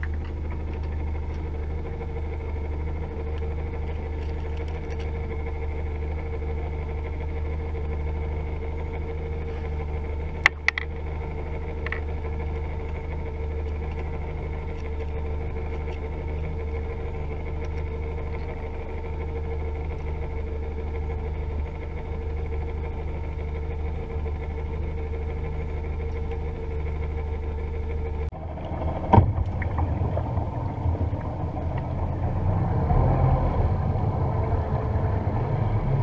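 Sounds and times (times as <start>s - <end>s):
boat motor running: 0.0s - 36.0s.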